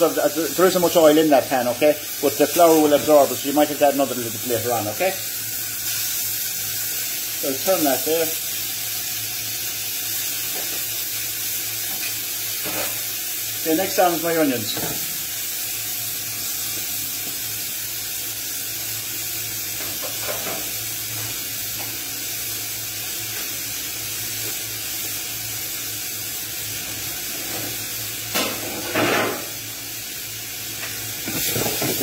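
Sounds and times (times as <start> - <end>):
onion and bacon sizzling in pan: 0.0 - 32.0.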